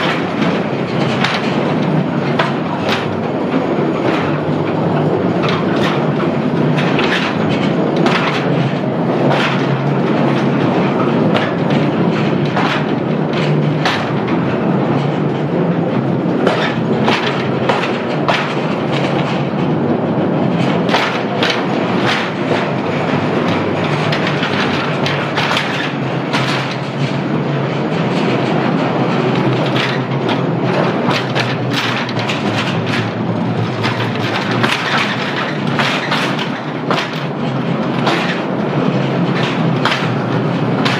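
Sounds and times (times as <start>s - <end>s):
irregular clacks and knocks: 0.0s - 19.7s, 20.4s - 40.9s
train wheels rumbling on track: 0.0s - 40.9s.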